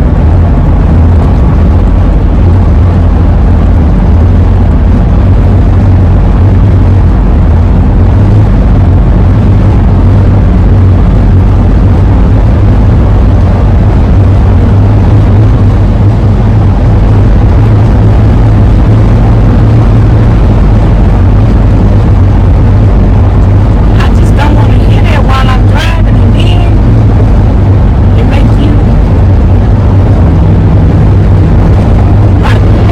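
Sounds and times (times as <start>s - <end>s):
van engine and tyre drone: 0.0s - 32.9s.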